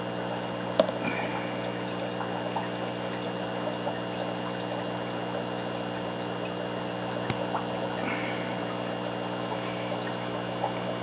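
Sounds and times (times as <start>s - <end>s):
electric pump hum: 0.0s - 11.0s
water trickling and bubbling: 0.0s - 11.0s.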